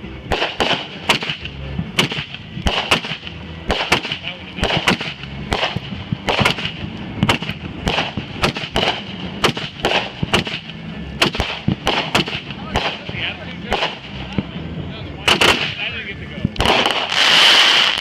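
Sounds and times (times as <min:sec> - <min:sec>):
fireworks bangs: 0:00.2 - 0:14.6, 0:15.2 - 0:18.0.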